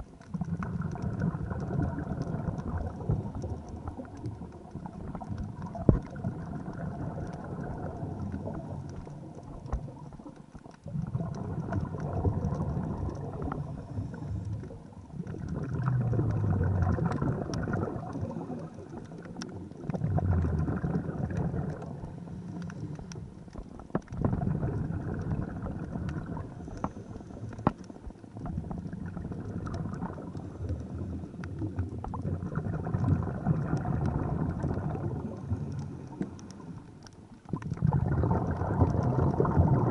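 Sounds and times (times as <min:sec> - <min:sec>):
scuba diver exhaled bubbles gurgling: 0:00.0 - 0:39.9.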